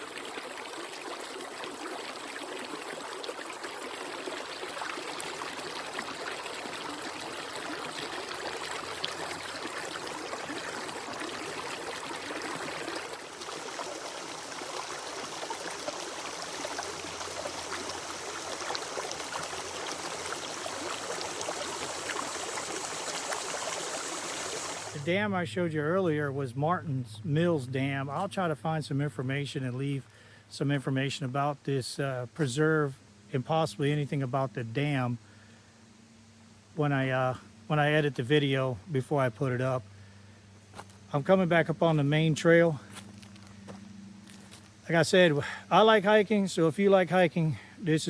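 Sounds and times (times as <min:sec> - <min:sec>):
water running over waterfall: 0:00.0 - 0:26.2, 0:31.1 - 0:48.0.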